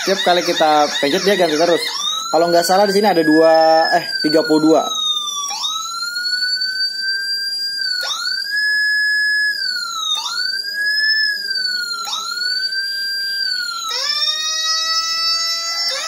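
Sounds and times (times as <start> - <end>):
electronic siren sweeping: 0.0 - 16.0.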